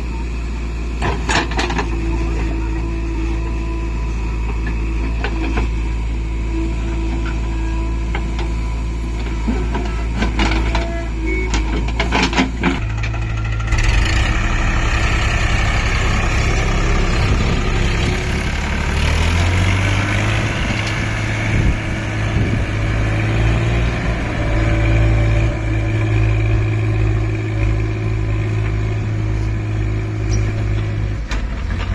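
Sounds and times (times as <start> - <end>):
heavy diesel engine running: 0.0 - 31.9.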